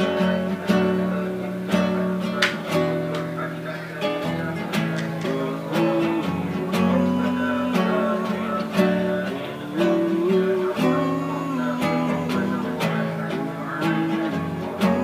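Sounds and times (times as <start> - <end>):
acoustic guitar strumming: 0.0 - 15.0
man singing slow melody: 0.0 - 15.0.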